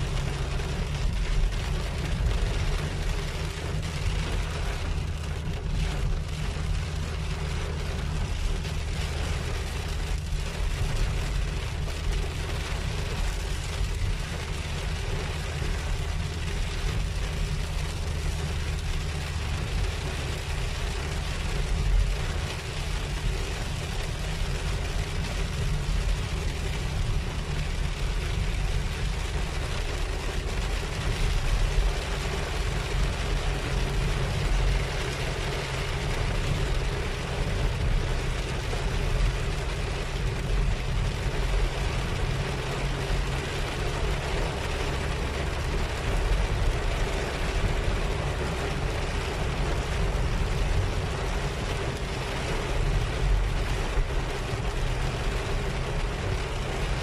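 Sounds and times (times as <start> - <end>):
car engine and road hum: 0.0 - 57.0
heavy rain on car: 0.0 - 57.0.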